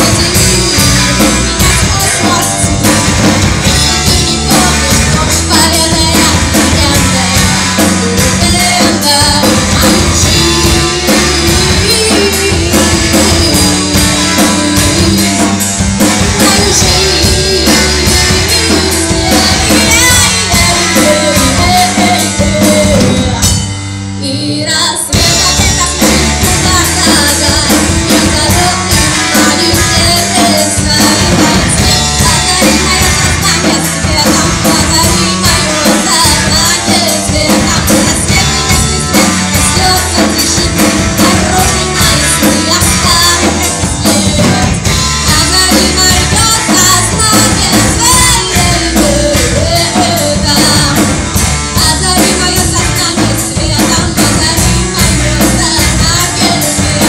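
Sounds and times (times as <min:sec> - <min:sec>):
live rock band playing: 0:00.0 - 0:57.0
woman singing: 0:00.0 - 0:57.0.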